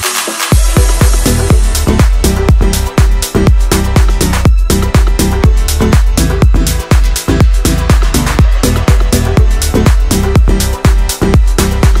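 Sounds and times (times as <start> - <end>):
electronic dance music: 0.0 - 12.0
kick drum beat: 0.0 - 12.0.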